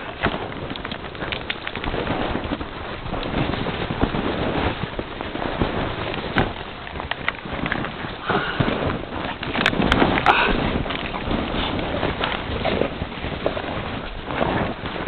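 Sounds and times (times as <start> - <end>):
microphone handling noise: 0.0 - 15.0.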